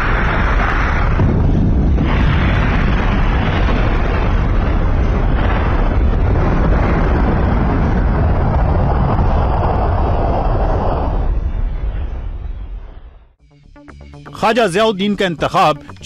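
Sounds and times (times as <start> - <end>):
explosion and fire roar: 0.0 - 13.4.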